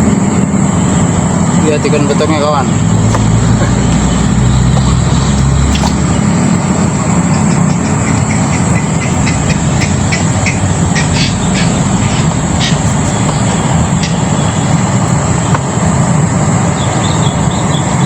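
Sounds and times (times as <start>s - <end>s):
loud low rumbling: 0.0s - 18.0s
thin high whine: 0.0s - 18.0s.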